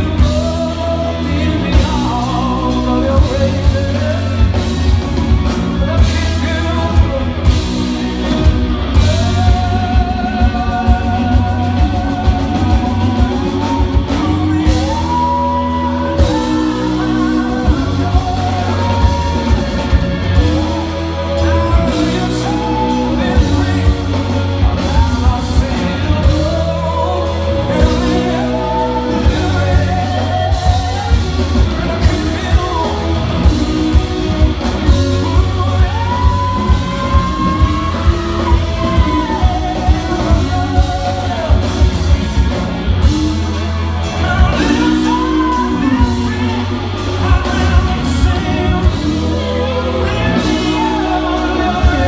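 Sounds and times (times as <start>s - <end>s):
electric guitar: 0.0s - 52.0s
man singing: 0.0s - 52.0s.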